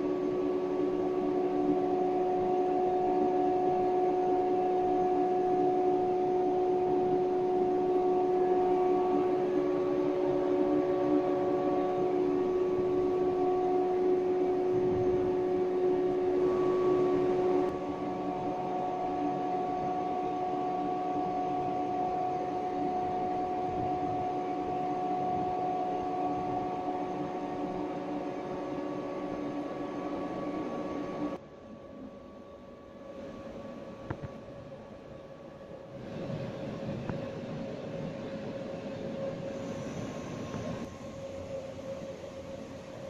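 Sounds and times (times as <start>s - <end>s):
electric train humming: 0.0s - 43.0s.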